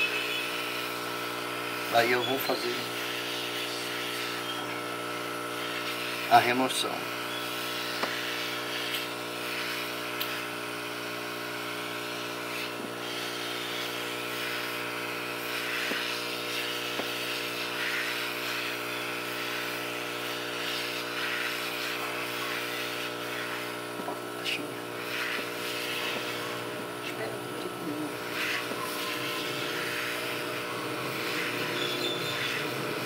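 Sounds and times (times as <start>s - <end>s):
hot air station blowing: 0.0s - 33.0s.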